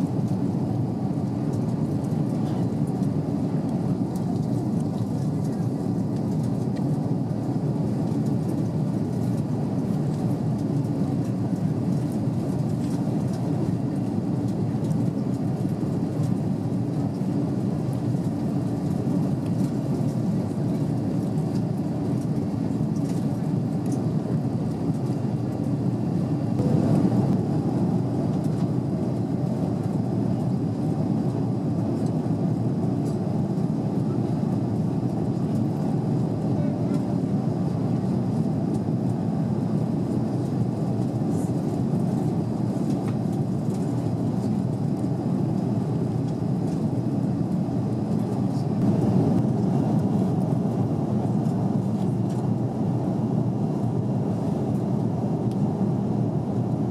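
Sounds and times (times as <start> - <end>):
airplane cabin engine drone: 0.0 - 56.9.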